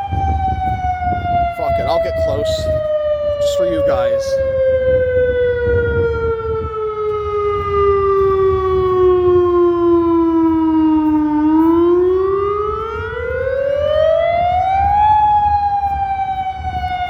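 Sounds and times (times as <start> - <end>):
outdoor warning siren wail: 0.0 - 17.0.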